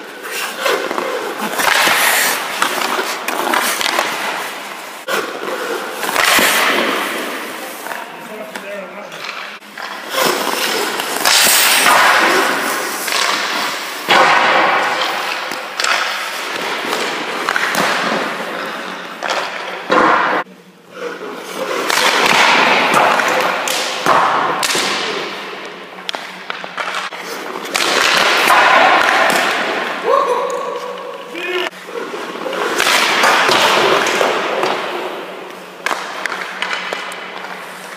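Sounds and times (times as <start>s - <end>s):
pucks and gear thudding: 0.0s - 20.5s, 21.1s - 37.9s
skates scraping ice: 0.0s - 37.9s.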